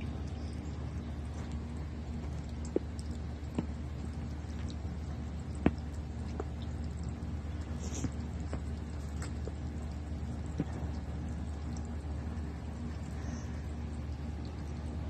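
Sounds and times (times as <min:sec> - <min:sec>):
steady low hum: 0:00.0 - 0:15.0
water dripping: 0:00.0 - 0:15.0.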